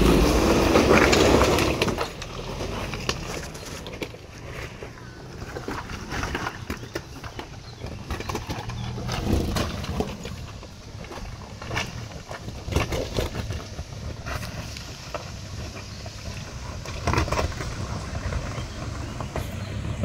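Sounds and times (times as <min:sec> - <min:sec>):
stones crunching under tyres: 0:00.0 - 0:20.0
suv engine pulling: 0:00.0 - 0:20.0.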